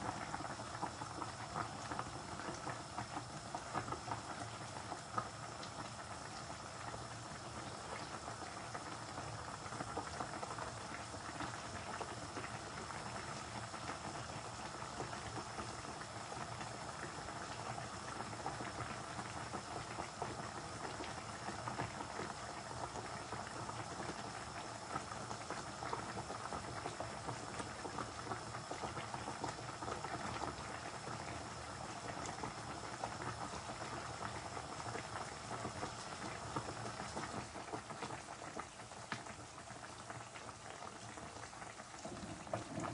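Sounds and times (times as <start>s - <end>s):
curry bubbling in a pan: 0.0s - 42.9s.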